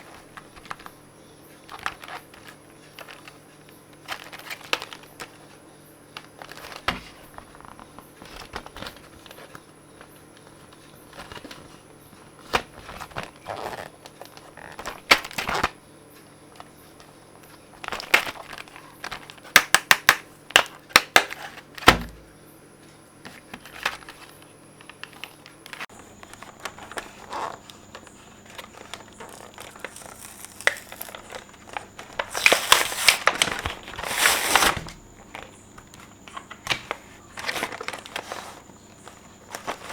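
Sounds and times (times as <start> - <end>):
plastic and cardboard crinkling: 0.0 - 22.4, 23.2 - 39.9.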